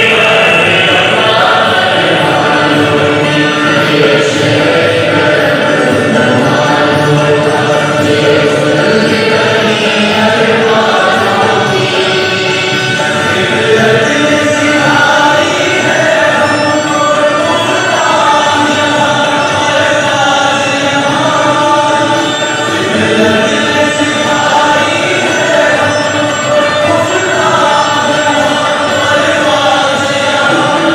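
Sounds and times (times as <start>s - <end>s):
group chanting chorus: 0.0s - 30.9s.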